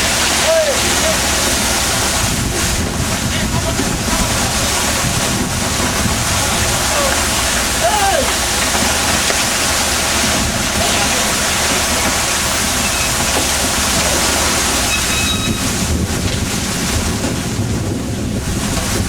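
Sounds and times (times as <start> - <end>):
boat engine drone: 0.0 - 19.0
water rushing along hull: 0.0 - 19.0
wind buffeting microphone: 0.0 - 19.0.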